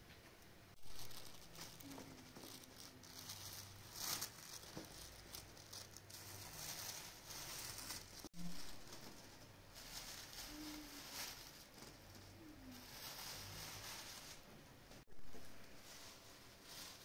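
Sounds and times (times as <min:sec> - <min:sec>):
plastic bag crinkling: 0:00.8 - 0:14.5, 0:15.3 - 0:17.0
petals pattering onto cloth: 0:00.8 - 0:17.0.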